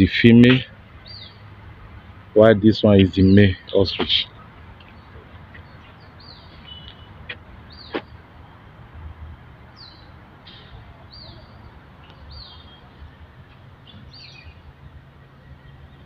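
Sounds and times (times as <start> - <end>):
small birds chirping: 0.0 - 8.6, 9.6 - 16.0.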